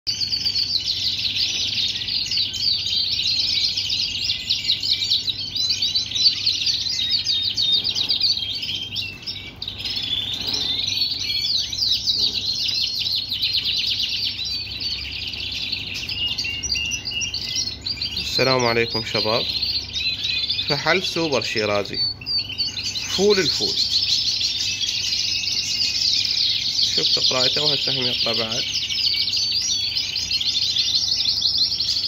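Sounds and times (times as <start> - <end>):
canary singing trills: 0.1 - 32.0.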